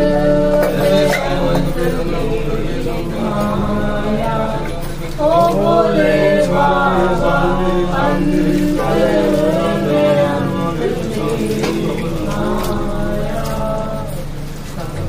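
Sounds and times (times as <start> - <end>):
steady drone: 0.0 - 15.0
voices chanting: 0.0 - 15.0.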